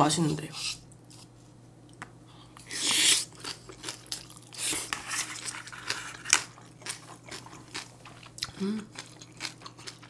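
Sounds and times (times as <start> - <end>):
person chewing: 0.7 - 10.0.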